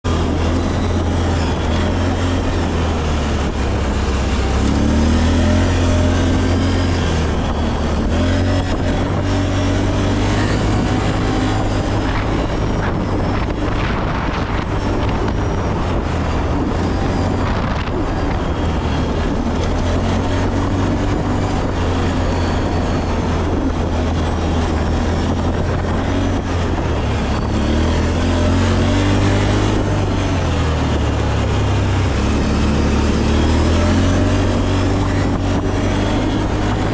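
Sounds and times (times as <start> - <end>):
constant low rumble: 0.0 - 36.9
off-road vehicle engine revving: 0.0 - 36.9.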